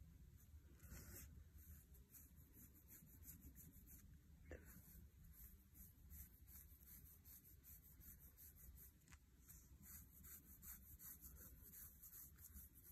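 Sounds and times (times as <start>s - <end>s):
brush swishing on paper: 0.4s - 12.9s.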